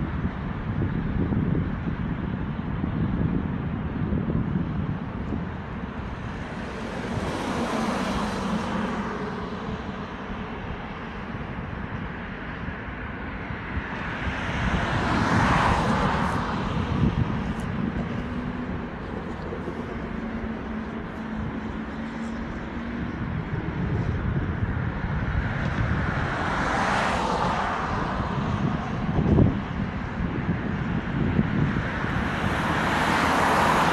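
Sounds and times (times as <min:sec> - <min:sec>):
low traffic rumble: 0:00.0 - 0:33.9
vehicles passing: 0:00.0 - 0:33.9.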